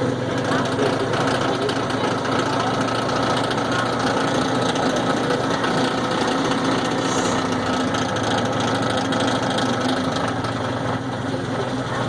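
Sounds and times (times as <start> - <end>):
utility vehicle mechanical drone: 0.0 - 12.0.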